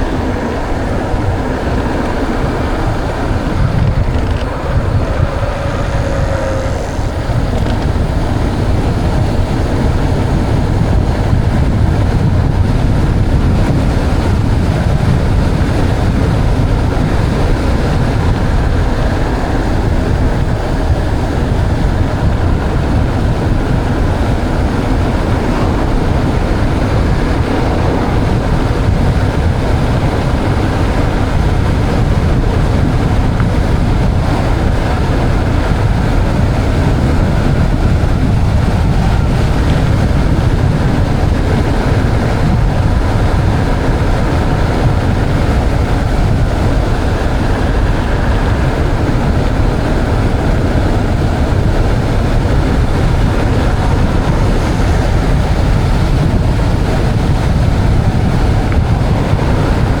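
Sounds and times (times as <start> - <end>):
bike tyres rolling on trail: 0.0 - 60.0
wind buffeting microphone: 0.0 - 60.0.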